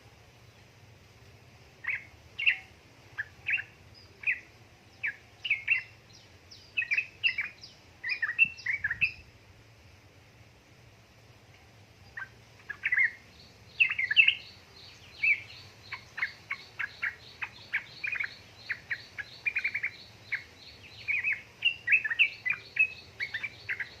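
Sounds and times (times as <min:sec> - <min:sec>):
bird singing chattering notes: 0:01.8 - 0:09.3, 0:12.1 - 0:24.0.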